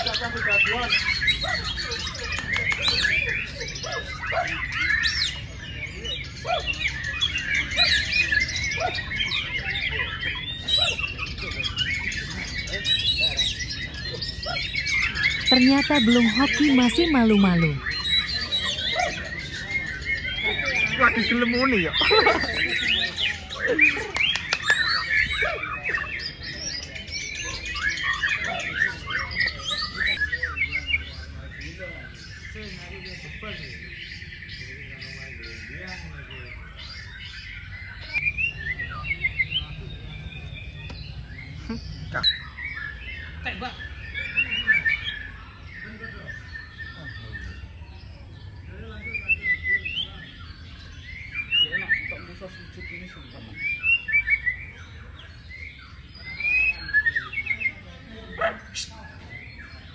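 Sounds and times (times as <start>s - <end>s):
birds singing and calling: 0.0s - 59.9s
songbirds chirping and whistling: 0.0s - 59.9s.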